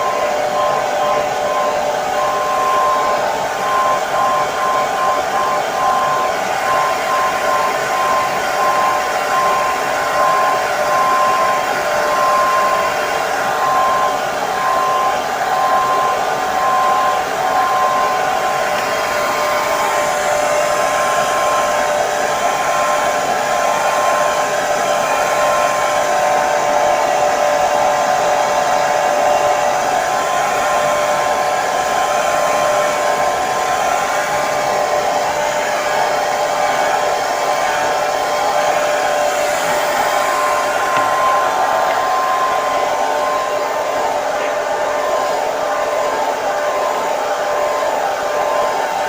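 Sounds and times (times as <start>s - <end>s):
hair dryer running: 0.0s - 49.0s.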